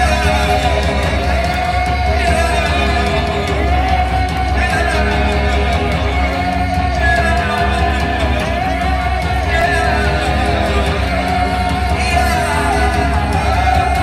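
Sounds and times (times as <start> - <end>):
person singing: 0.0 - 14.0
steady low drone: 0.0 - 14.0
strummed guitars: 0.0 - 14.0.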